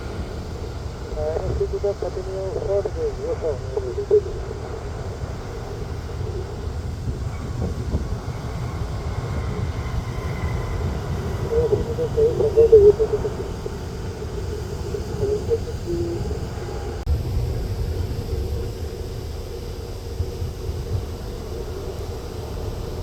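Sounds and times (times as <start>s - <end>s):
jet engines rumbling: 0.0s - 23.0s
wind on microphone: 0.0s - 23.0s.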